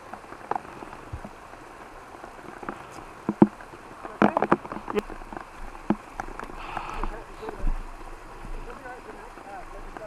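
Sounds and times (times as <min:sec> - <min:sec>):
boots on muddy trail: 0:00.0 - 0:10.0
steady rain pattering: 0:00.0 - 0:10.0.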